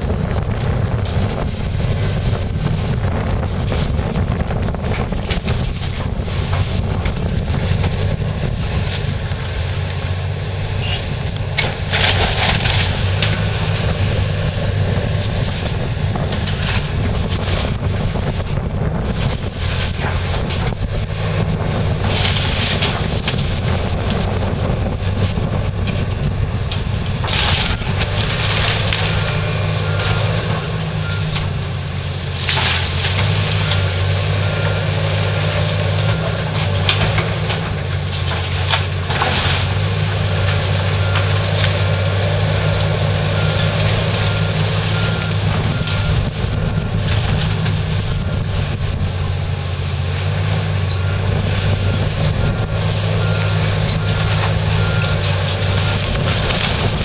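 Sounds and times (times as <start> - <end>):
excavator diesel engine running: 0.0 - 57.0
timber splintering and debris crashing: 10.8 - 57.0.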